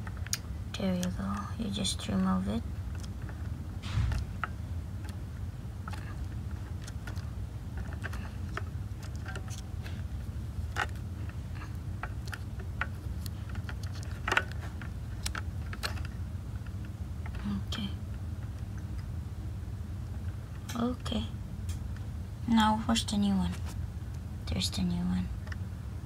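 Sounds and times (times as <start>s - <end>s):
low handling rumble: 0.0s - 26.0s.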